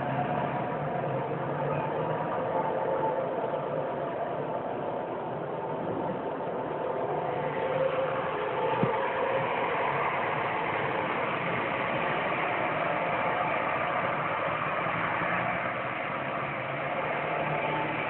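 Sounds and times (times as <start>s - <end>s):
steady drone: 0.0s - 18.0s.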